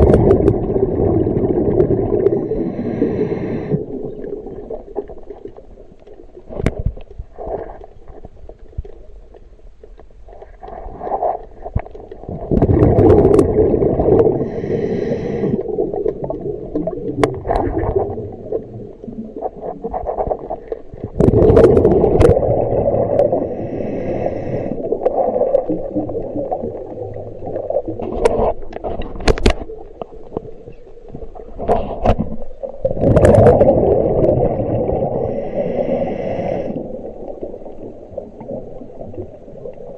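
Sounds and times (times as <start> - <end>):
gurgling and sloshing water: 0.0 - 39.9.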